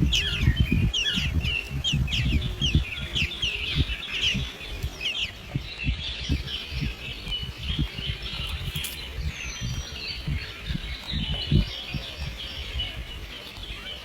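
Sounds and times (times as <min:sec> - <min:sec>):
low rumble: 0:00.0 - 0:13.2
birds chirping: 0:00.0 - 0:14.0.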